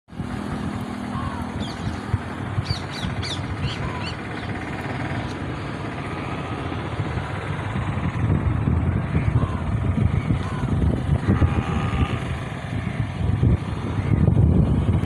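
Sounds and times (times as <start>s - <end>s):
steady low rumble: 0.1s - 15.0s
birds chirping: 0.2s - 7.4s, 9.0s - 14.4s.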